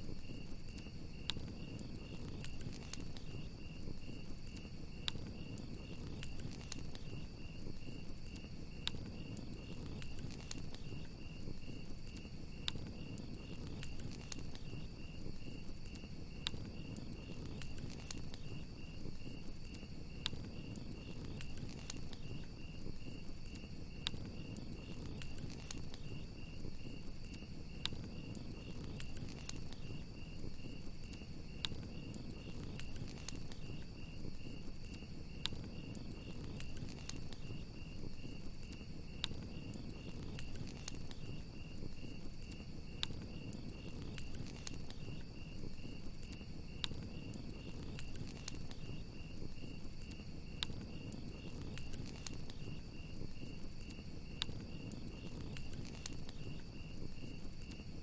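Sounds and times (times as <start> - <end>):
campfire crackling: 0.0 - 58.0
crickets chirping: 0.0 - 58.0.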